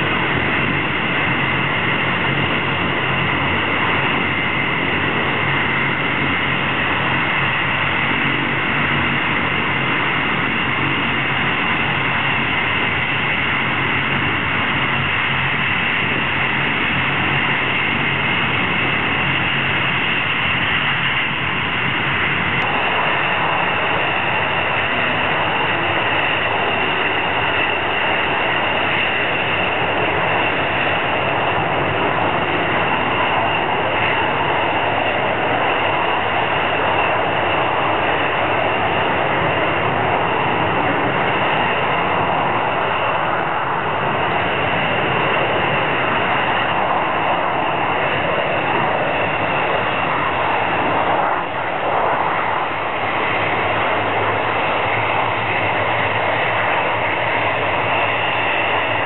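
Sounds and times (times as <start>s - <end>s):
jet engines whining while taxiing: 0.0s - 59.0s.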